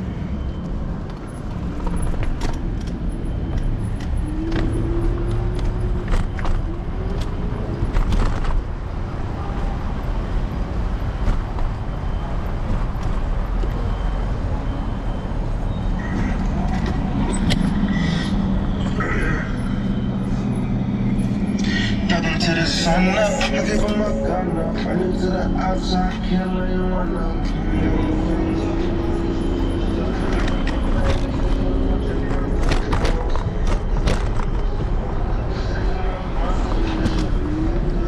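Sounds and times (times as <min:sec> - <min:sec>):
traffic road noise rumble: 0:00.0 - 0:38.0.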